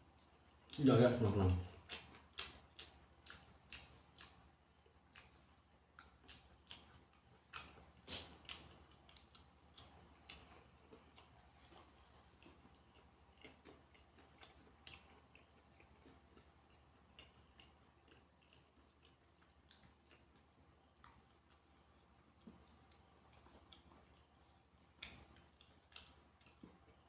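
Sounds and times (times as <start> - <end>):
low steady hum: 0.0 - 27.0
person chewing food: 0.0 - 27.0.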